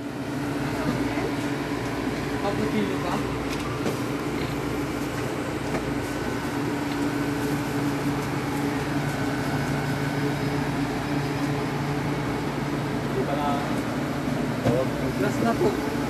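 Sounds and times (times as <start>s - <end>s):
cooling machinery hum: 0.0s - 16.0s.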